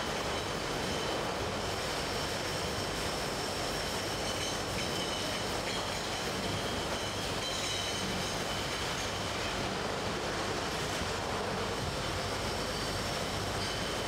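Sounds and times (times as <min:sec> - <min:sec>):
faint high whining tones: 0:00.0 - 0:10.0, 0:12.1 - 0:14.0.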